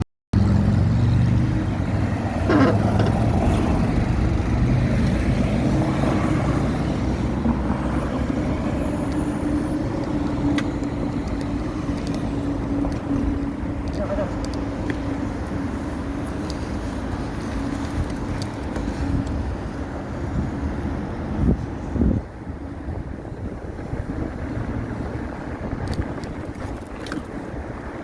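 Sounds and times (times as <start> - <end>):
vehicle engine rumbling: 0.4 - 28.0.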